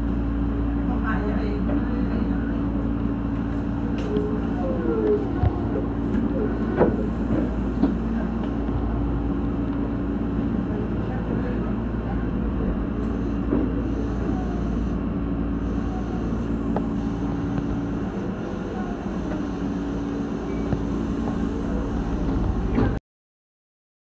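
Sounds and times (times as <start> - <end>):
electric train rumble and hum: 0.0 - 23.0.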